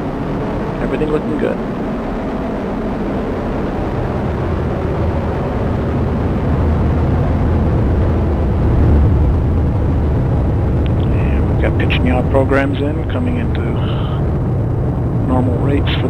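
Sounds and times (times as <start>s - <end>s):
rocket engines deep rumble: 0.0s - 16.0s.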